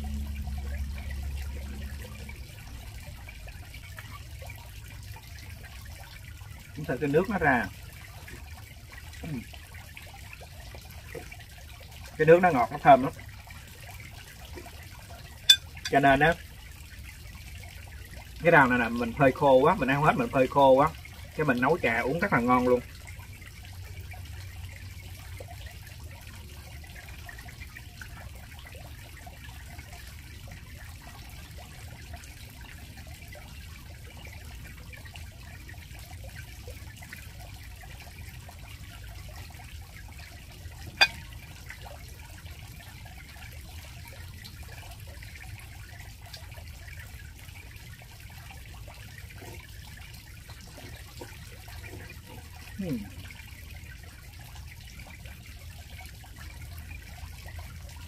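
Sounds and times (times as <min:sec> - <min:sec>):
low background rumble and hiss: 0:00.0 - 0:58.0.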